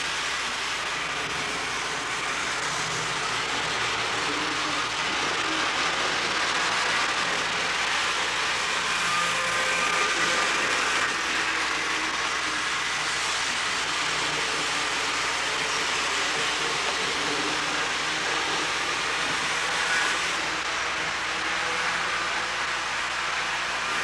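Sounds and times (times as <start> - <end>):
model trains running: 0.0 - 24.0.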